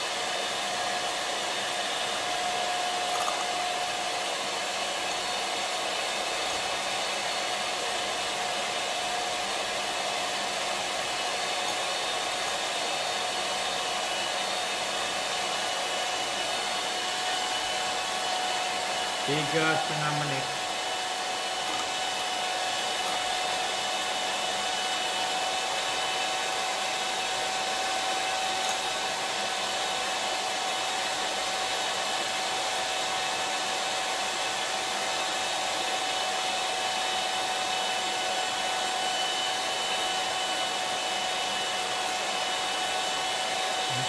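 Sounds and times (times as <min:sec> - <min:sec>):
electric hand mixer whining: 0:00.0 - 0:44.0.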